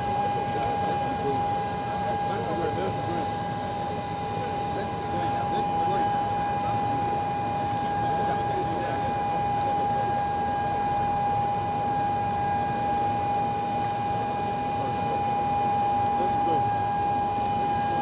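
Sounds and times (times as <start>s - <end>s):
steady single-pitched whine: 0.0s - 18.0s.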